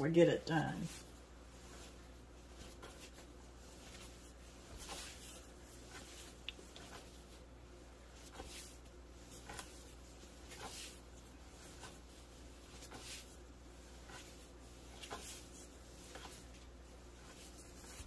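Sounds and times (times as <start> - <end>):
dough kneading thuds and rubbing: 0.1 - 18.0.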